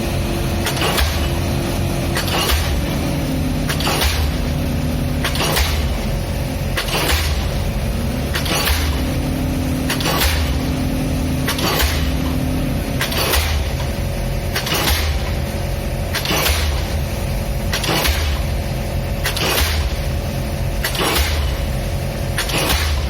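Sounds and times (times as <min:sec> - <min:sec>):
pile driver engine running: 0:00.0 - 0:23.0
pile driver striking: 0:00.6 - 0:07.7, 0:08.3 - 0:15.5, 0:16.1 - 0:17.0, 0:17.7 - 0:18.6, 0:19.2 - 0:20.1, 0:20.8 - 0:21.7, 0:22.4 - 0:23.0.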